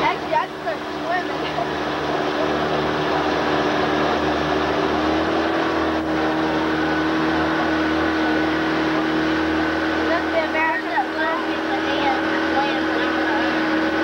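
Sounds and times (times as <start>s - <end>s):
boat motor running: 0.0s - 14.0s
water noise: 0.0s - 14.0s.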